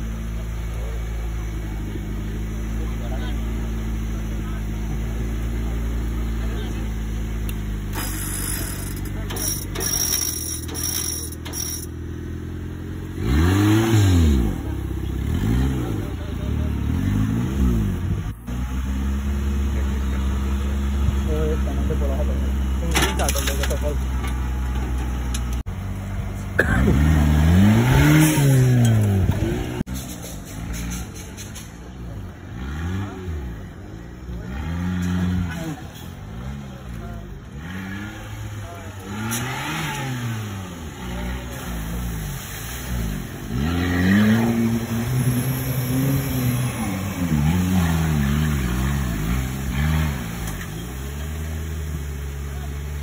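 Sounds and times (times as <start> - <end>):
engine idling and revving: 0.0 - 53.0.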